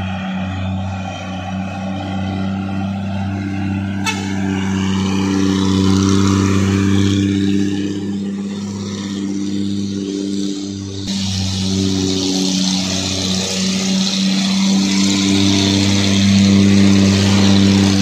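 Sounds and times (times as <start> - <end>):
diesel truck engine labouring: 0.0 - 18.0.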